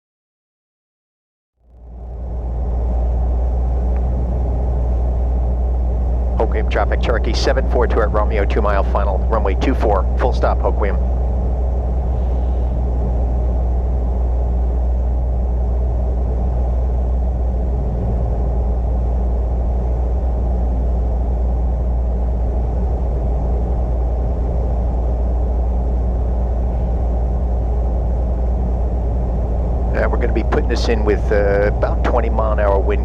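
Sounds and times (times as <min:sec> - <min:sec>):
propeller plane engine droning: 0:01.6 - 0:33.0.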